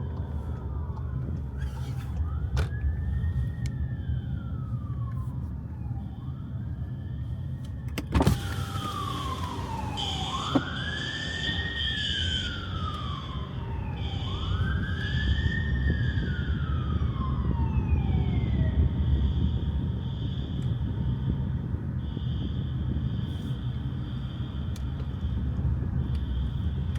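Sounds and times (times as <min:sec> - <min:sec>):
emergency siren wailing: 0:00.0 - 0:26.9.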